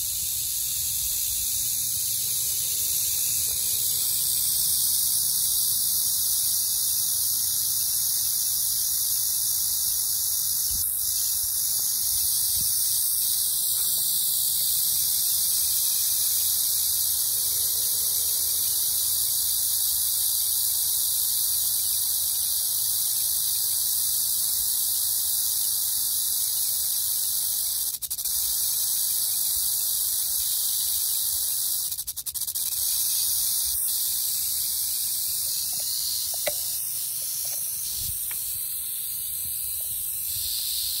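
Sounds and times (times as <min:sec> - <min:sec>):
rattlesnake tail rattling: 0:00.0 - 0:41.0.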